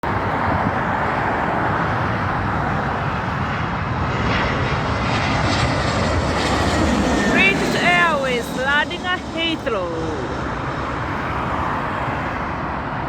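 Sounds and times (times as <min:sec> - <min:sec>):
jet airliner engines rushing: 0:00.0 - 0:13.0.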